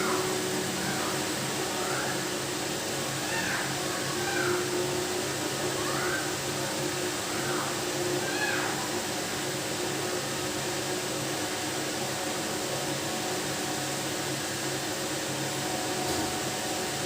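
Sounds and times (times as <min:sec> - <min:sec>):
machine hum and hiss: 0:00.0 - 0:17.0.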